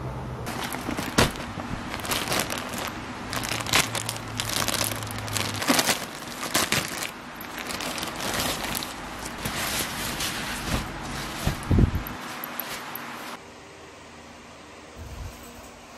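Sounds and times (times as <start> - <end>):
plastic mailer bag crinkling: 0.5 - 13.4
shell jacket rustling: 0.5 - 13.4.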